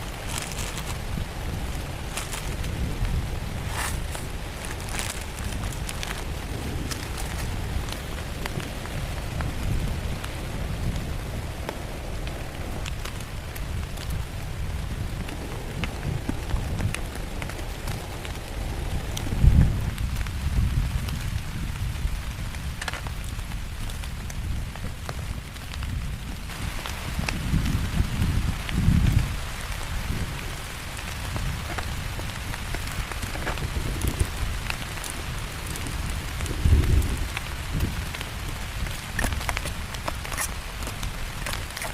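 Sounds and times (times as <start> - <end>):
constant low rumble: 0.0 - 41.9
heavy rain falling: 0.0 - 41.9.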